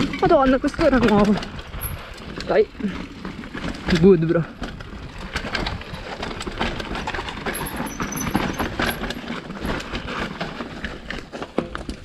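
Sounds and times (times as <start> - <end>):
bike rattling over stones: 0.0 - 12.0
bike tyres rumbling on dirt: 0.0 - 12.0.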